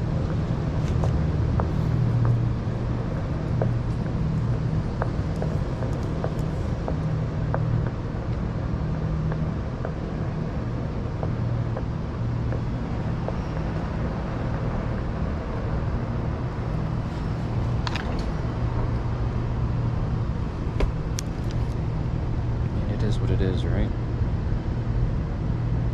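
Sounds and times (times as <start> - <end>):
tyre and wind noise: 0.0 - 23.2
low hum: 0.0 - 25.9.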